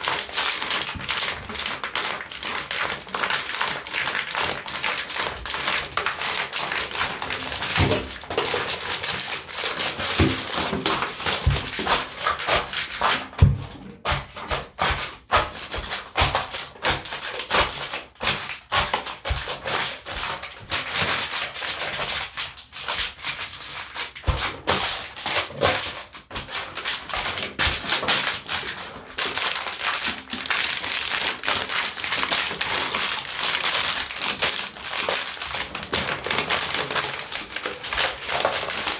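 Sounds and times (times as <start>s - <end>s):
plastic bottles crackling: 0.0s - 38.9s.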